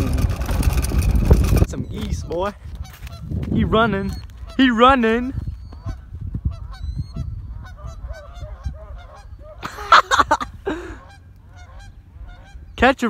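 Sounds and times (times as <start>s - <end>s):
geese honking: 2.0s - 13.0s.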